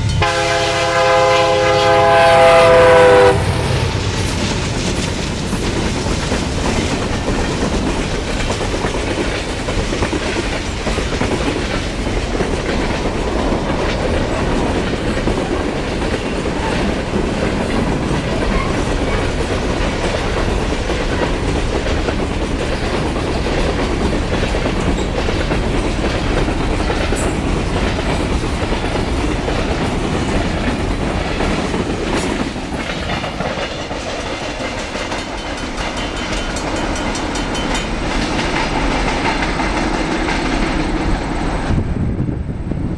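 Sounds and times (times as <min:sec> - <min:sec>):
freight train rolling past: 0:00.0 - 0:42.9
wheels clacking over rail joints: 0:03.0 - 0:41.7.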